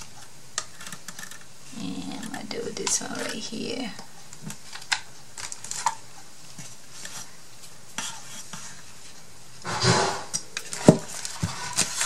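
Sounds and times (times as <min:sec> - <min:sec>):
twine rustling and scraping on wood: 0:00.0 - 0:12.0.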